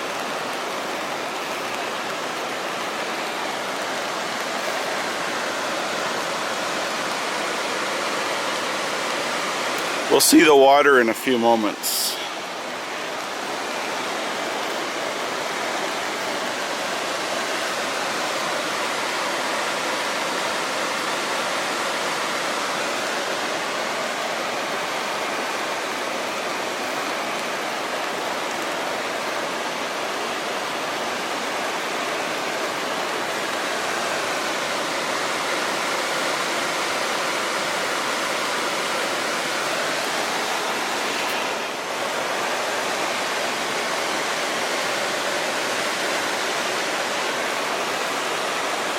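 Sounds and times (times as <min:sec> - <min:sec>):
creek water rushing: 0:00.0 - 0:48.9.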